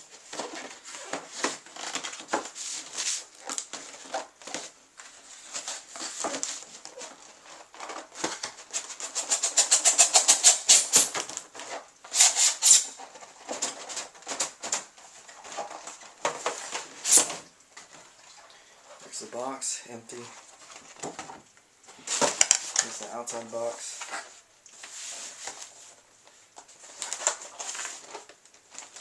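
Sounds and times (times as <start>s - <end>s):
cardboard and plastic packaging rustling: 0.0s - 18.2s, 18.8s - 29.0s.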